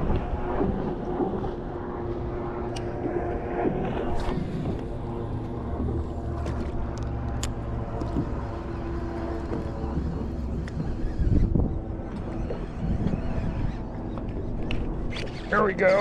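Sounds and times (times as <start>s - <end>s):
low rumble: 0.0s - 15.4s
boat motor running: 0.0s - 16.0s.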